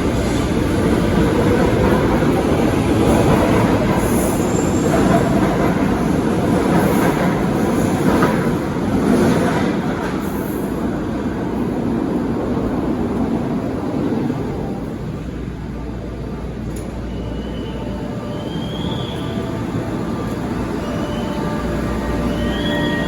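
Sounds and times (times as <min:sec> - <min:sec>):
subway train wheels running: 0:00.0 - 0:23.0.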